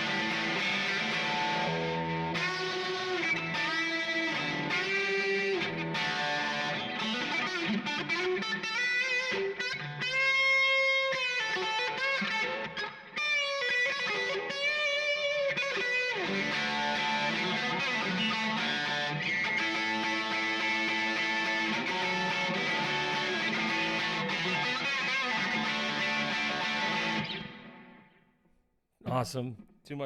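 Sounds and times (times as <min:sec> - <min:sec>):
electric guitar lead: 0:00.0 - 0:28.2.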